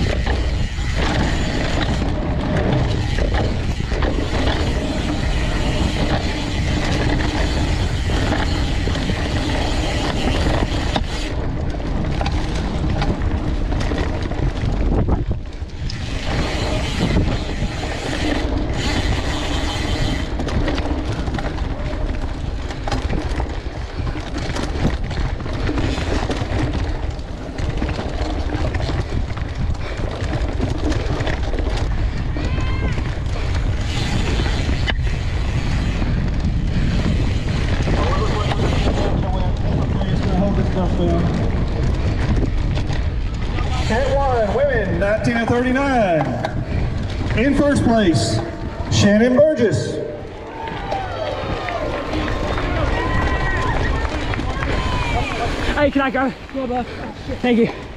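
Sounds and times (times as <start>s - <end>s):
bike frame and drivetrain rattle: 0.0s - 57.9s
bike tyre rumble on dirt: 0.0s - 57.9s
wind rushing over microphone: 0.0s - 57.9s.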